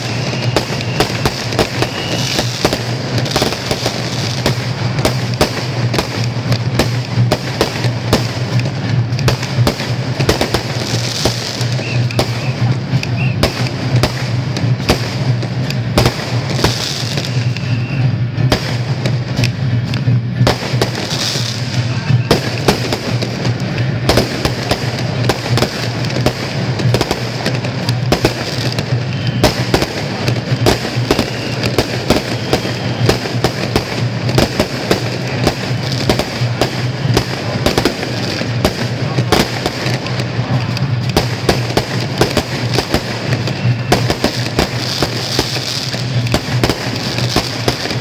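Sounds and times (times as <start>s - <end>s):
firecrackers popping: 0.0s - 48.0s.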